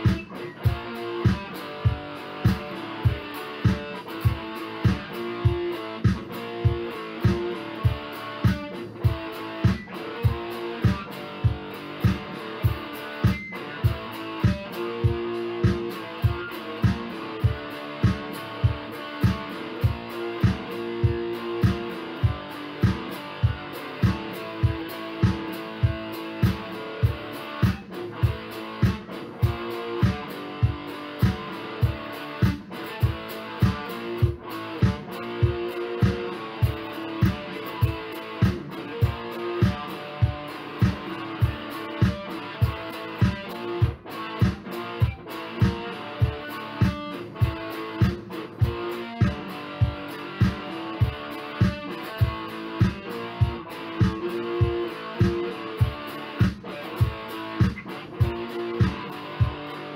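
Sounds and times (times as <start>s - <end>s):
guitar music over a beat: 0.0s - 59.9s.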